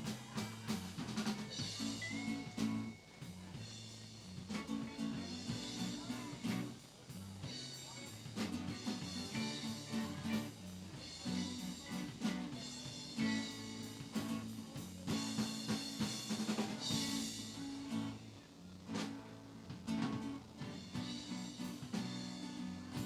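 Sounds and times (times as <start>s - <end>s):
live band playing: 0.0s - 18.2s, 19.8s - 23.0s.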